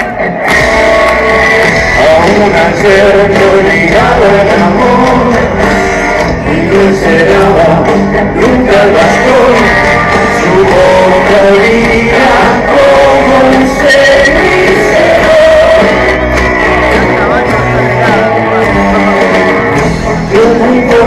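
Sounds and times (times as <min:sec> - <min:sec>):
live rock music with singing: 0:00.0 - 0:21.0.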